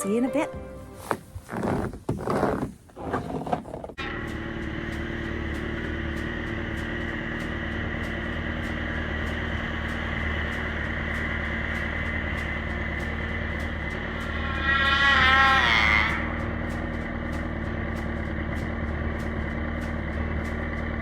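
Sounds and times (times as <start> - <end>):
snowmobile engine running: 1.0 - 21.0.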